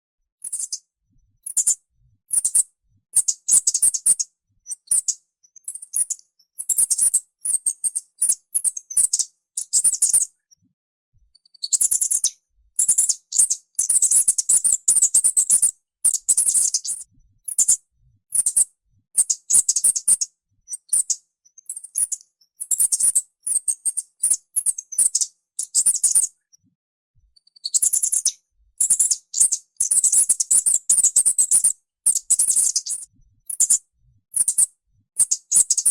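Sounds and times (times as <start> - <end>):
mouse squeaking: 0.4 - 0.8, 1.4 - 10.3, 11.4 - 26.4, 27.4 - 35.9.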